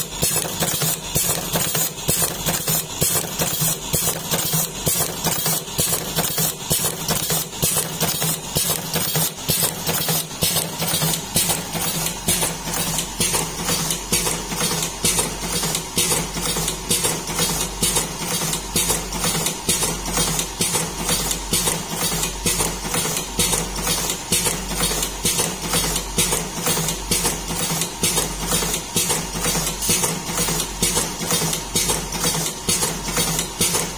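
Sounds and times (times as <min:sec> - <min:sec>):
machine mechanism clacking: 0:00.0 - 0:33.9.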